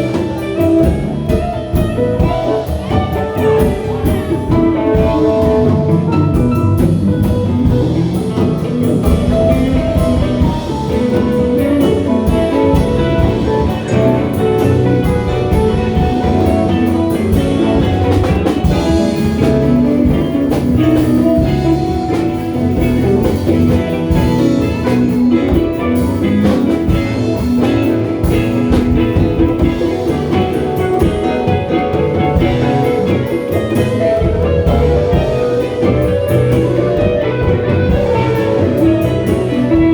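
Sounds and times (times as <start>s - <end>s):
drum kit: 0.0s - 39.9s
electric guitar playing: 0.0s - 39.9s.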